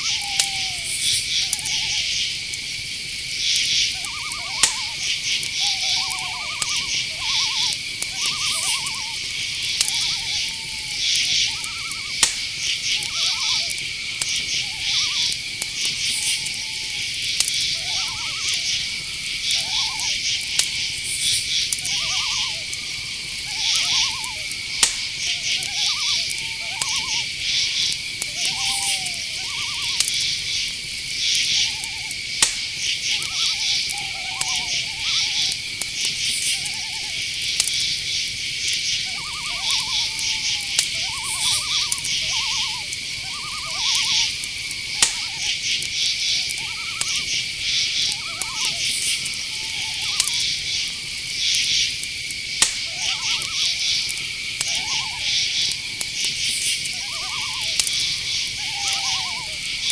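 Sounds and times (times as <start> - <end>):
crickets and insects trilling: 0.0 - 59.9
low pulsed insect calls: 0.0 - 59.9
sharp clicks: 3.6 - 36.8, 37.5 - 38.1, 38.7 - 59.0.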